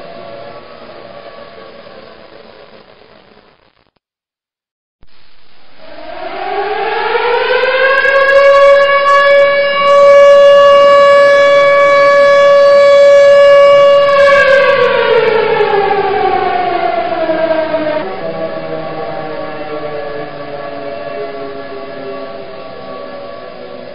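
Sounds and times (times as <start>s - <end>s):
siren: 0.0s - 2.8s, 5.5s - 23.9s.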